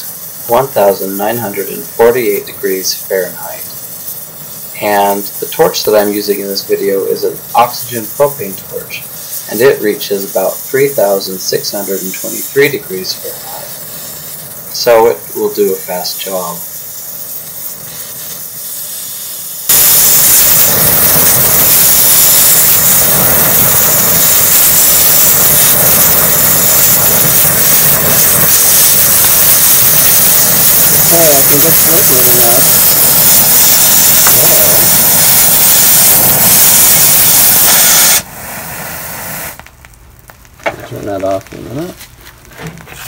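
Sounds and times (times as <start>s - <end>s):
torch flame hissing: 0.0s - 43.0s.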